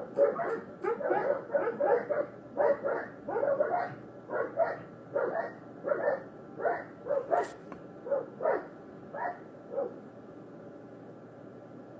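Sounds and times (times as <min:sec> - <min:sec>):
dog barking: 0:00.0 - 0:10.0.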